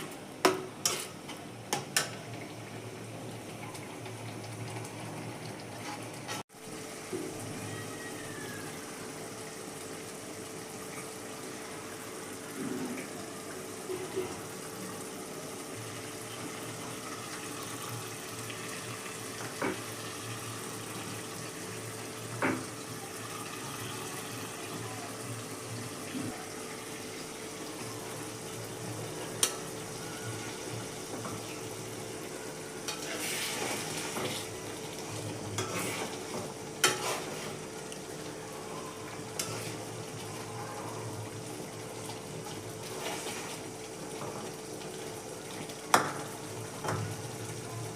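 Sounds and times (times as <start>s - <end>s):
food sizzling in a frying pan: 0.0s - 47.9s.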